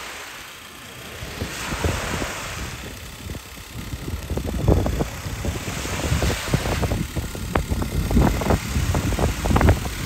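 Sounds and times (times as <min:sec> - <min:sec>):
gusty hiss: 0:00.0 - 0:10.0
wind buffeting microphone: 0:01.1 - 0:10.0.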